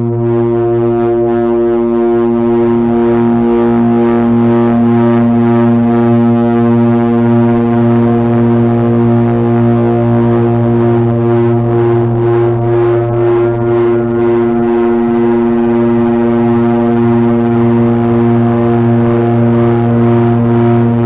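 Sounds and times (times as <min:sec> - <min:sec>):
low electronic drone: 0:00.0 - 0:21.0.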